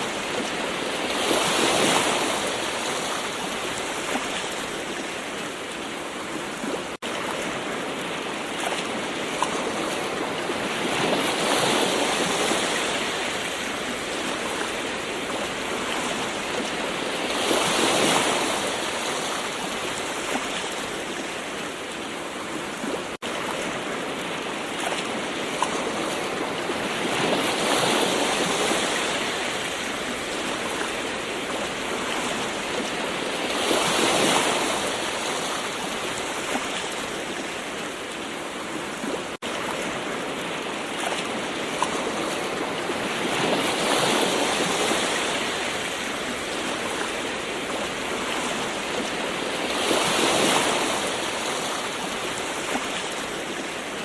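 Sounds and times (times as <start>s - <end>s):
gentle ocean waves: 0.0s - 54.0s.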